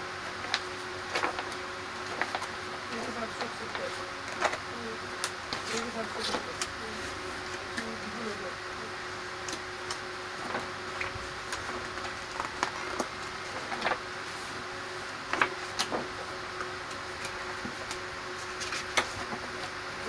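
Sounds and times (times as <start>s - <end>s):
steady background hum: 0.0s - 20.0s
pages rustling: 0.4s - 4.6s, 5.2s - 8.2s, 9.5s - 14.6s, 15.2s - 16.3s, 16.9s - 19.8s.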